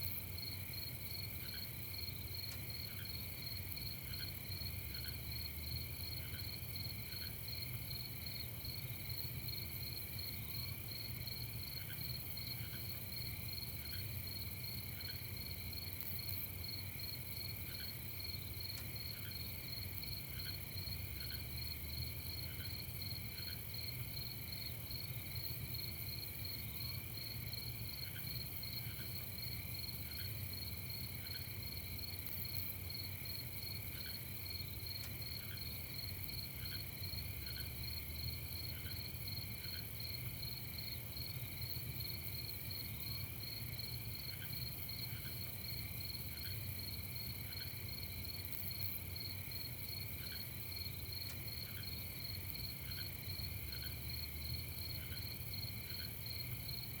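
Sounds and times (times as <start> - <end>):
crickets trilling: 0.4 - 57.0.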